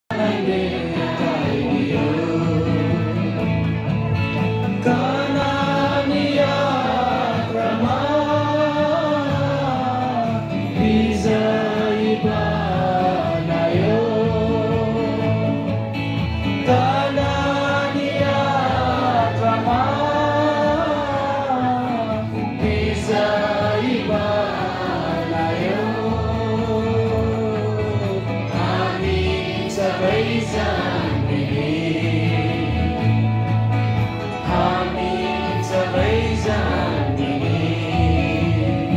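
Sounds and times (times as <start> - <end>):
instrumental backing: 0.1 - 38.9
voices singing worship song: 0.1 - 38.9.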